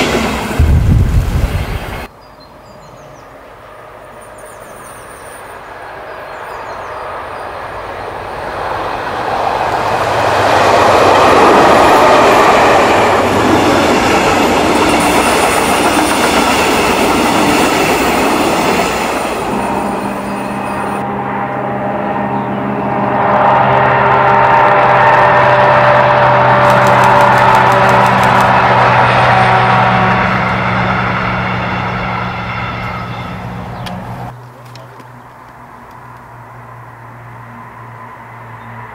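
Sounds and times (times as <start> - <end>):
train wheels rumbling on track: 0.0 - 2.1, 5.3 - 36.7
diesel locomotive engine passing: 0.0 - 38.9.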